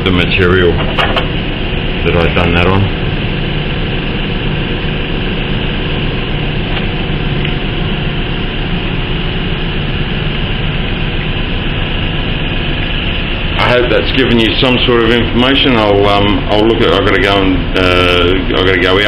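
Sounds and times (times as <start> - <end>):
mechanical running noise with hum: 0.0 - 19.0.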